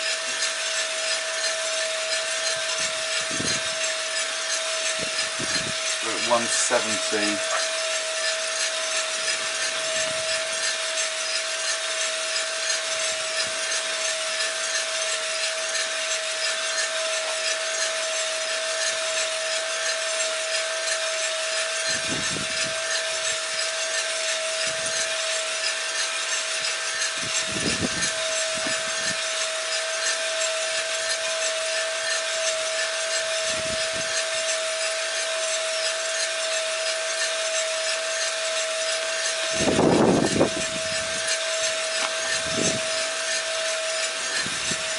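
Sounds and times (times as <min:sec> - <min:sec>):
roaster fan: 0:00.0 - 0:44.9
steady hum: 0:00.0 - 0:44.9.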